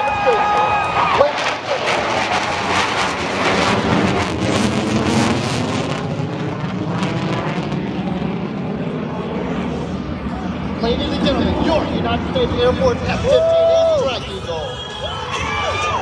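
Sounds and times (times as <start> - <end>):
jet engine rushing: 0.0 - 16.0.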